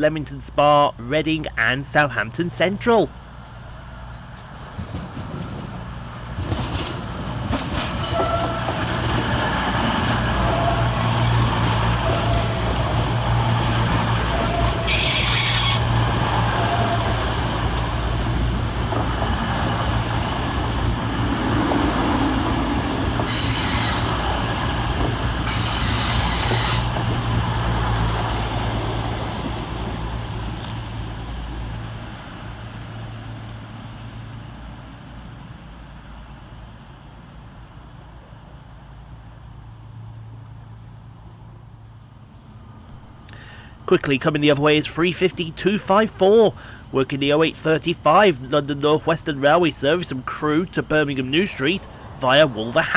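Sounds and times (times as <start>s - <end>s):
diesel train engine drone: 0.0s - 52.9s
rail noise: 0.0s - 52.9s.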